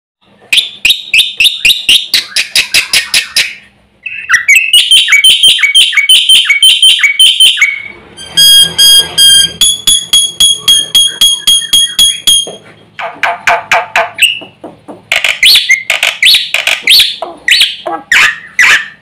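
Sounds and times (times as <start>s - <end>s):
bird chirping rapidly: 0.6s - 12.5s, 14.0s - 14.6s, 15.2s - 19.0s
bird whistling: 0.6s - 12.6s, 15.4s - 19.0s.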